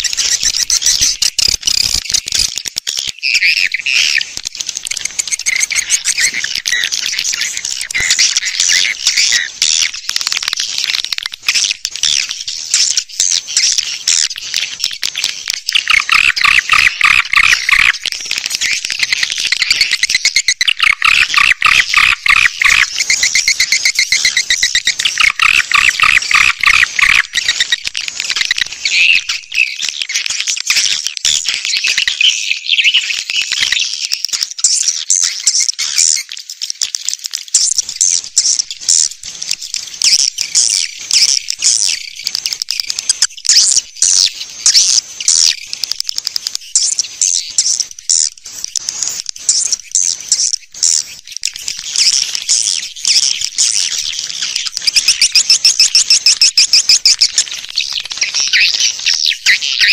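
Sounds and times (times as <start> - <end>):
swiftlets chattering and twittering: 0.0 - 59.9.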